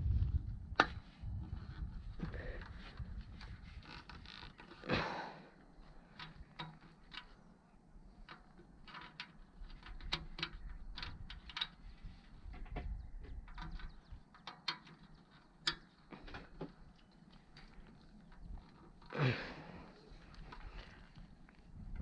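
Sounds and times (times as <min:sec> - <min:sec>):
light clicks and knocks of gear: 0:00.2 - 0:04.9, 0:05.5 - 0:22.0.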